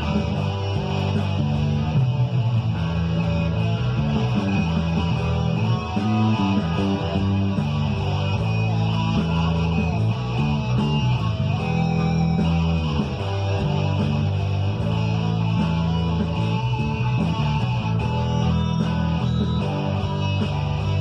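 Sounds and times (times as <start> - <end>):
bass line: 0.0 - 21.0
guitar playing: 0.0 - 21.0.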